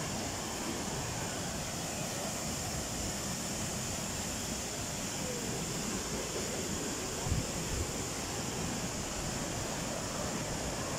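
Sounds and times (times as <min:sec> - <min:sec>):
waterfall pouring into pool: 0:00.0 - 0:10.9.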